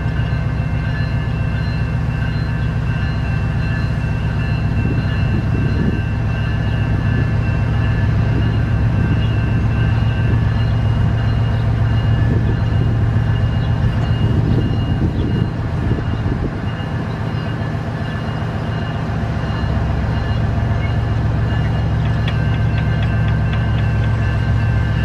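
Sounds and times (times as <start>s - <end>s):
freight train rolling by: 0.0s - 25.0s
locomotive engine humming: 0.0s - 25.0s.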